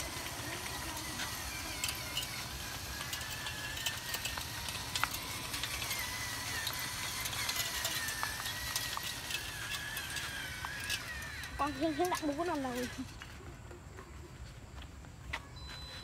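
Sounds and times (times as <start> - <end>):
electric motor high whine: 0.0 - 13.4
drivetrain clicks and rattles: 0.0 - 14.0.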